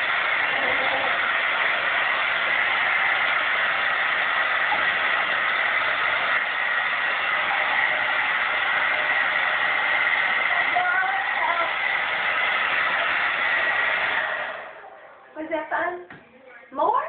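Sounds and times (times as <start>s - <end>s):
hair dryer running: 0.0s - 15.1s.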